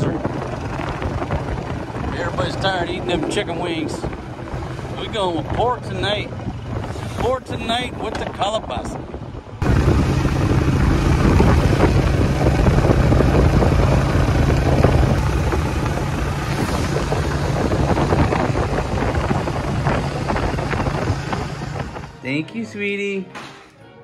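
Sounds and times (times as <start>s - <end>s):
motorcycle engine running: 0.0s - 22.2s
wind noise on microphone: 0.0s - 22.4s.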